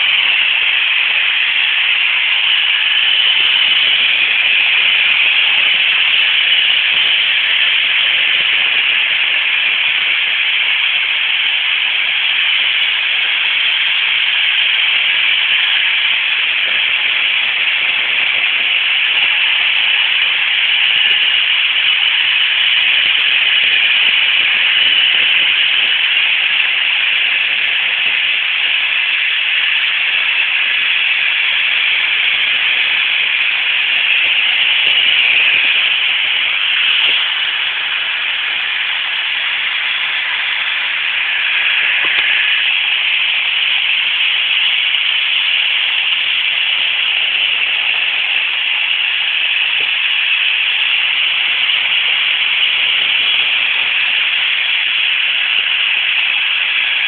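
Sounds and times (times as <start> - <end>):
robot vacuums hissing: 0.0 - 57.0.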